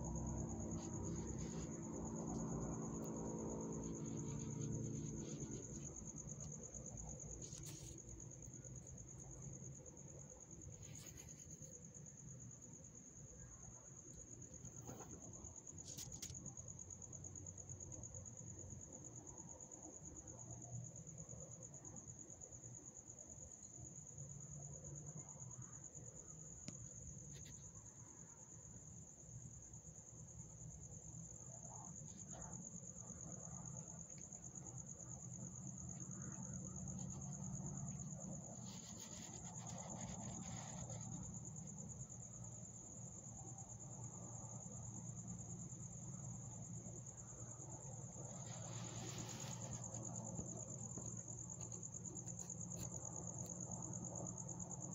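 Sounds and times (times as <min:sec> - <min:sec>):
night insects trilling: 0:00.0 - 0:54.9.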